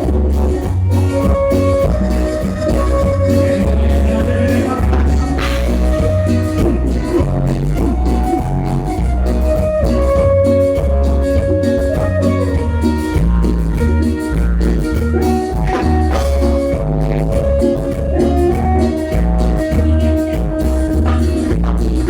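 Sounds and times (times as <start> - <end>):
bass line: 0.0 - 22.0
drums: 0.0 - 22.0
sustained lead melody: 0.0 - 22.0.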